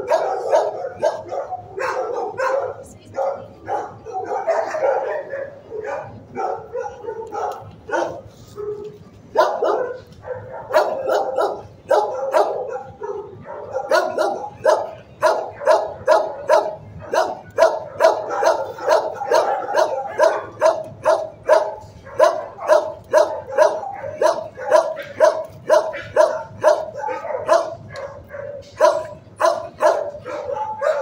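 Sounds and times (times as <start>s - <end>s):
dogs barking: 0.0s - 31.0s.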